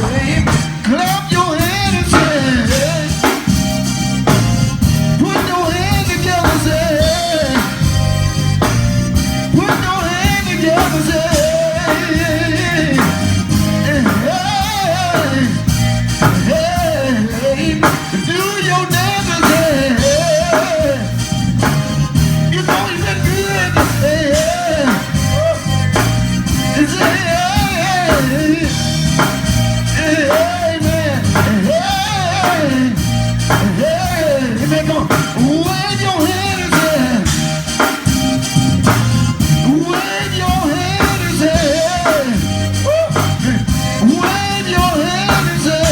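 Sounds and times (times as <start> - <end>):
people singing: 0.0 - 3.7, 5.2 - 8.0, 9.5 - 38.0, 39.6 - 45.9
band playing: 0.0 - 45.9.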